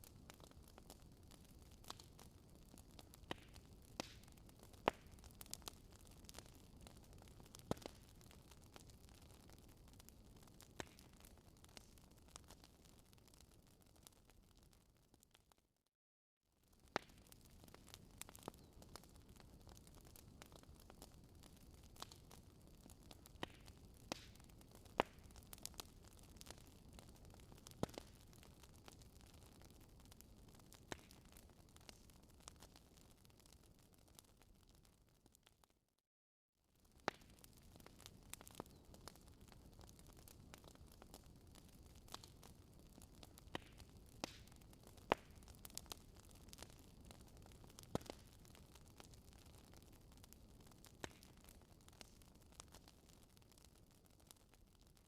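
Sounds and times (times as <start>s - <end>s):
wood fire crackling: 0.0s - 15.6s, 16.6s - 35.7s, 36.8s - 55.0s.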